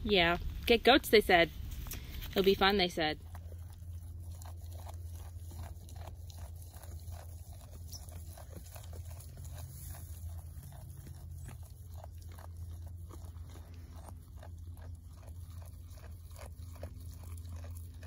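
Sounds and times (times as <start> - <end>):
goats chewing dry hay: 0.0 - 18.0
steady low hum: 0.0 - 18.0.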